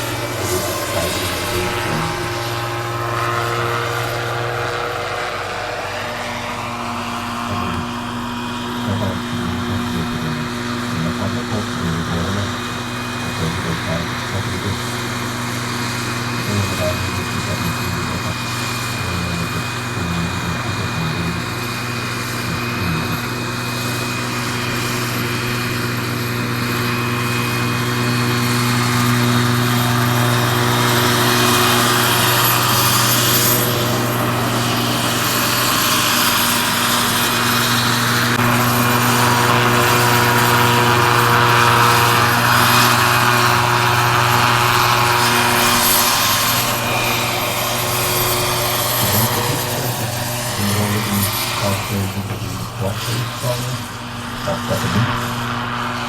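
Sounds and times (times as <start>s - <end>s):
model helicopter rotor thrum: 0.0s - 56.0s
turbine whine: 0.0s - 56.0s.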